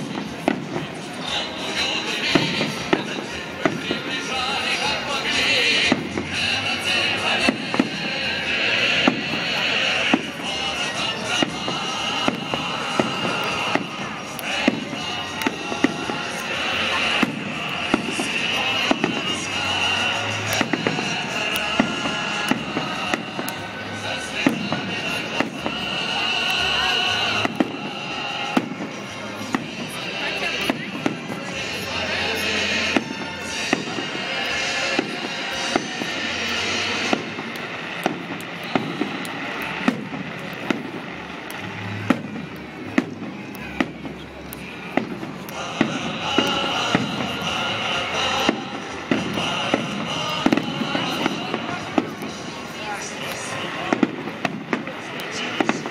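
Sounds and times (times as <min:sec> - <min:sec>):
fireworks bangs and cracks: 0:00.0 - 0:55.9.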